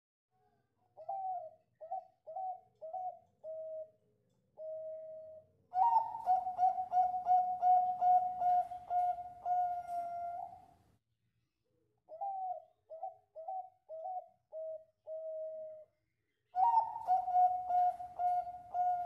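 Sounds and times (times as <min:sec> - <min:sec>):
dove cooing: 0:01.0 - 0:04.0, 0:04.6 - 0:10.7, 0:12.1 - 0:15.9, 0:16.6 - 0:19.0.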